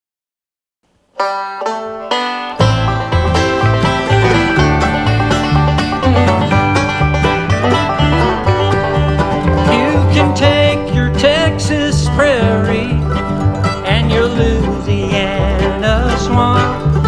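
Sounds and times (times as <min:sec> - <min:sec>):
guitar: 0:01.2 - 0:17.0
rolling banjo: 0:01.2 - 0:17.0
wavering lead melody with vibrato: 0:01.3 - 0:17.0
steady bass beat: 0:02.6 - 0:17.0.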